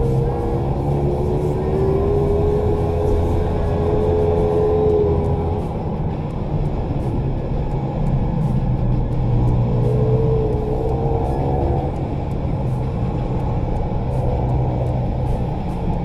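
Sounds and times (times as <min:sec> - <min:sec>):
pit bike engine: 0:00.0 - 0:16.0.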